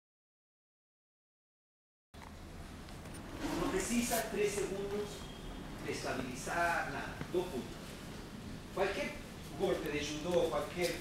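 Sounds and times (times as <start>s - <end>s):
room hum with faint hiss: 2.2s - 11.0s.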